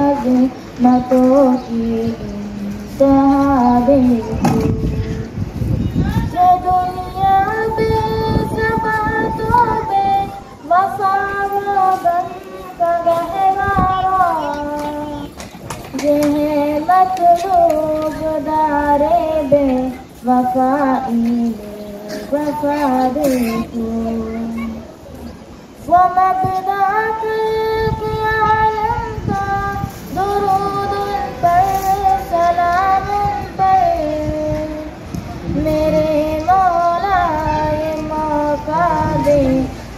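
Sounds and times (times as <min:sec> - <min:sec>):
girl singing devotional song: 0:00.0 - 0:25.0, 0:25.8 - 0:39.9.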